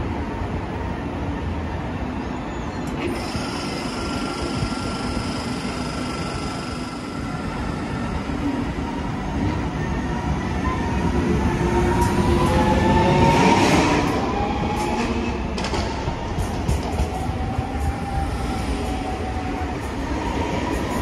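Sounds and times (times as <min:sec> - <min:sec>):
train wheels rumbling on rails: 0:02.8 - 0:21.0.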